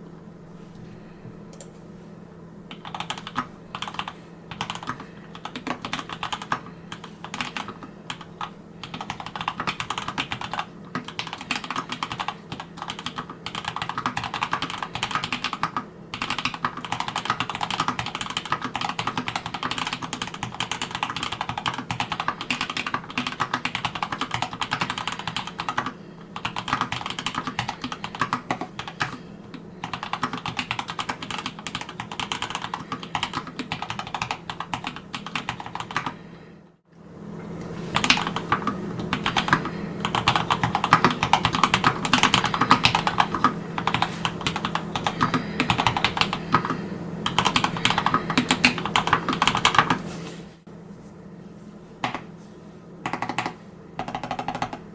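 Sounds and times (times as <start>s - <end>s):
steady low hum: 0.0s - 54.9s
fast typing on mechanical keyboard: 2.7s - 29.2s, 29.8s - 36.2s, 38.0s - 50.0s, 53.0s - 54.9s.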